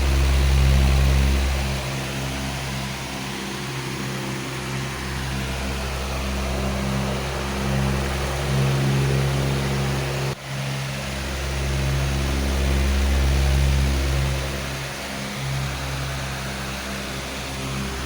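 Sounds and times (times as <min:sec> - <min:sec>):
electric fan running: 0:00.0 - 0:18.0.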